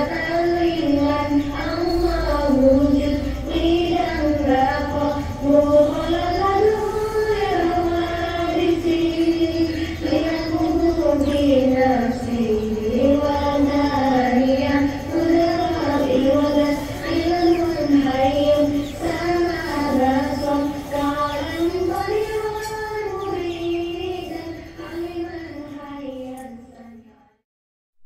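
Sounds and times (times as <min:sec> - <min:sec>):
high voice singing slow melody: 0:00.0 - 0:27.4.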